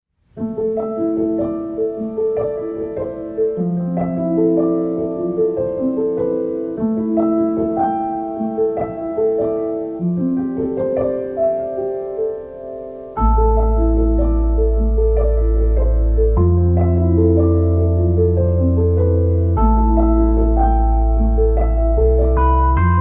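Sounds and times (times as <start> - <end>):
gentle piano music: 0.3 - 23.0.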